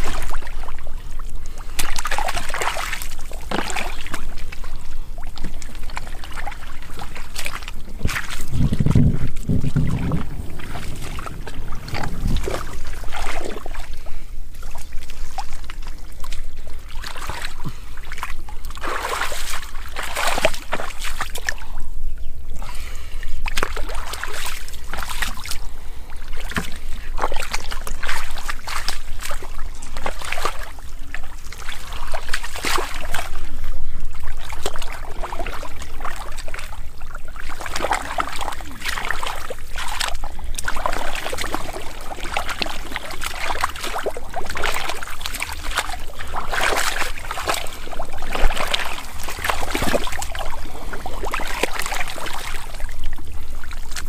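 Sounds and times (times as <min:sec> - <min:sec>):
muddy water sloshing and splashing: 0:00.0 - 0:54.0.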